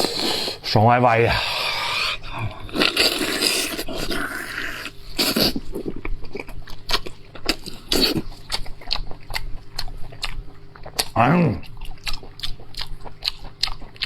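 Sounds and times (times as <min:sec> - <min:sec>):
person chewing meat: 0:00.0 - 0:14.0.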